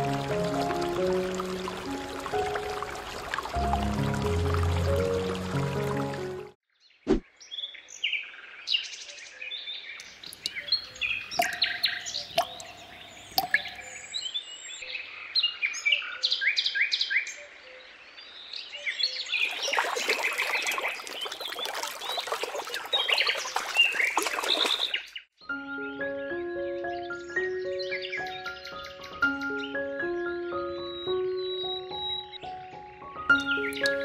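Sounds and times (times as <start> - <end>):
birds chirping and trilling: 0.1 - 34.0.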